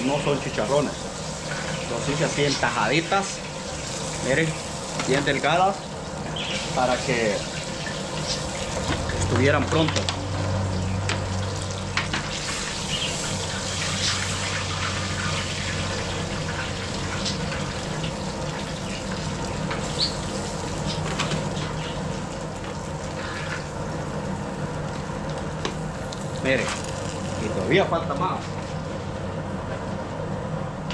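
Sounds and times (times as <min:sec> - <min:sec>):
fish sizzling on a griddle: 0:00.0 - 0:28.0.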